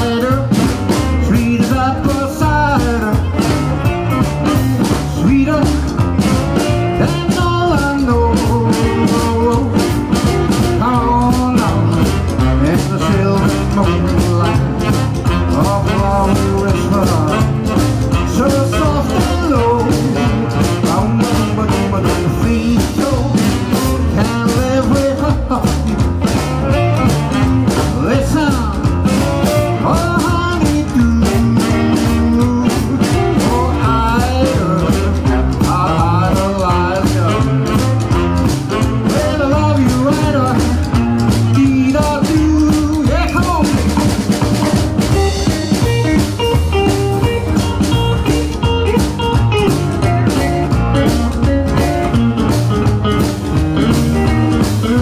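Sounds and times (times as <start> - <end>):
live rock and roll band: 0.0 - 55.0.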